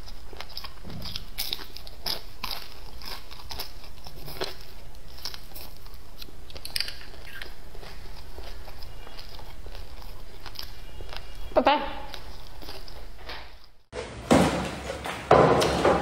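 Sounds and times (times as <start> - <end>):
crunchy chewing of fried fish: 0.0 - 13.9.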